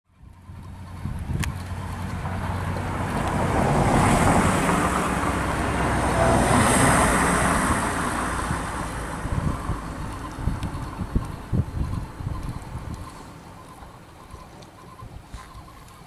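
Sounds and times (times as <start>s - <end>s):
vehicle passing by: 0.2s - 14.4s.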